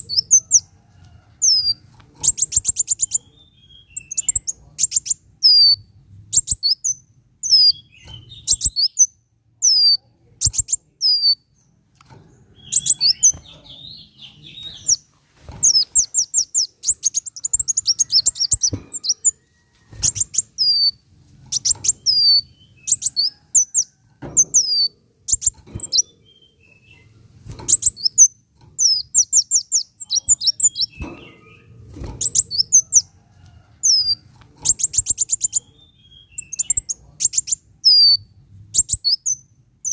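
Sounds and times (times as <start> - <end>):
sunbird singing: 1.4 - 11.8, 12.4 - 15.0, 15.6 - 19.4, 20.0 - 27.1, 27.7 - 33.1, 33.9 - 39.9.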